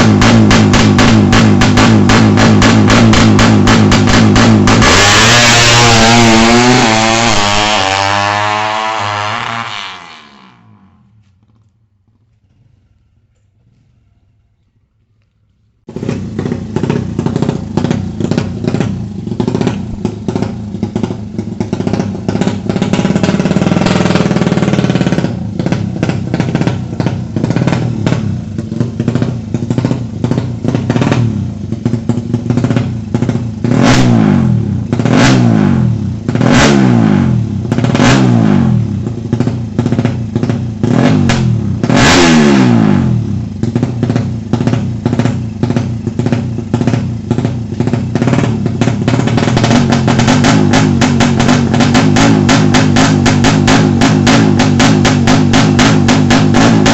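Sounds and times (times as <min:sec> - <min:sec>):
motorcycle engine revving: 0:00.0 - 0:13.0, 0:15.9 - 0:56.9
crackling exhaust: 0:00.0 - 0:56.9.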